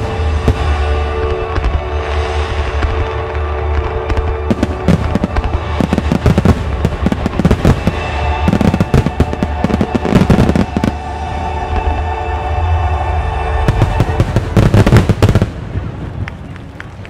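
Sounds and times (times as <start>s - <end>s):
fireworks cracking and banging: 0.0s - 11.2s, 13.7s - 17.0s
music: 0.0s - 17.0s.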